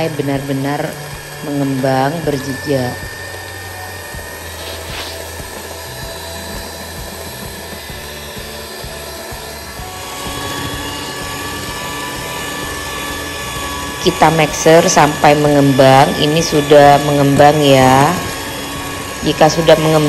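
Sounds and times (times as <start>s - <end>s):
electric hand mixer running: 0.0s - 20.0s.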